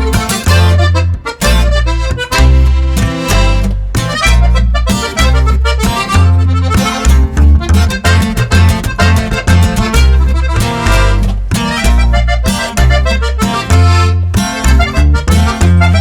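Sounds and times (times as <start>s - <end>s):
heavy bass hits: 0.0s - 16.0s
upbeat accordion-like lead melody: 0.0s - 16.0s.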